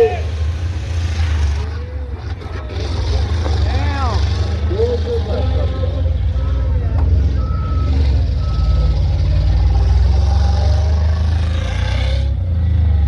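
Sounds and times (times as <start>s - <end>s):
van engine running: 0.0s - 13.0s.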